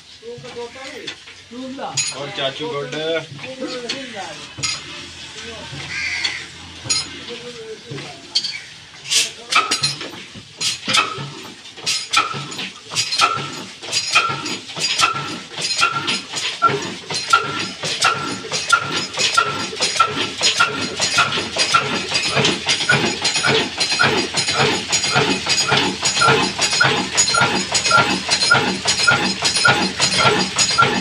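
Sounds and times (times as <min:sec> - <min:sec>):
diesel engine knocking: 0:03.2 - 0:08.4, 0:09.5 - 0:31.0.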